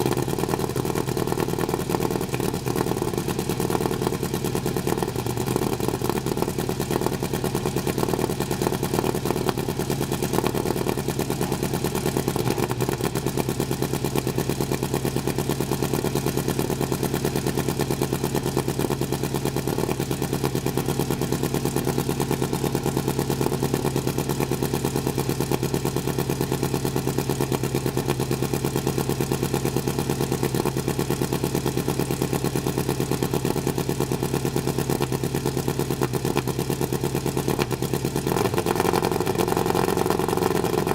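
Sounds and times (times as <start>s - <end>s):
race car engine running: 0.0s - 40.9s.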